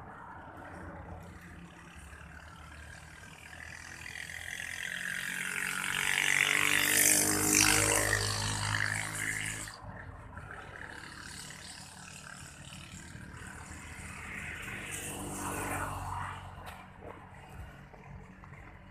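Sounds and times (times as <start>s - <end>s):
motor engine passing by: 0.0s - 18.9s.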